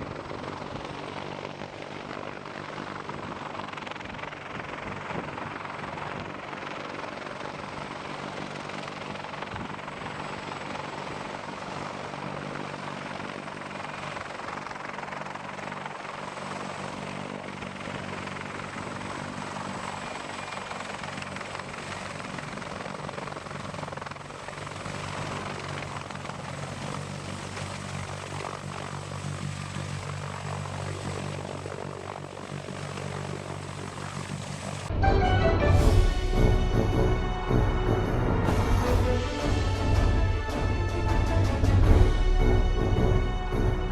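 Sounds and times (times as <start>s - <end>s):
helicopter turbine and rotor noise: 0.0s - 43.9s.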